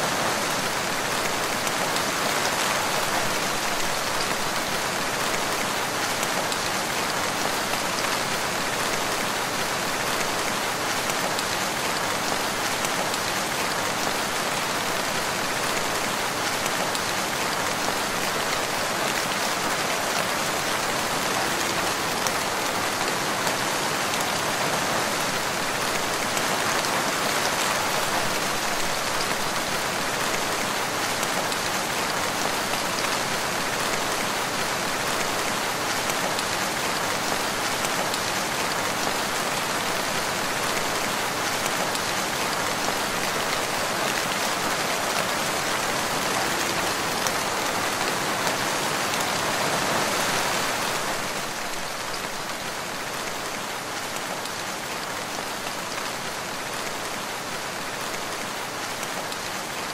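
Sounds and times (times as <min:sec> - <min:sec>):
steady rainfall hiss: 0:00.0 - 0:59.9.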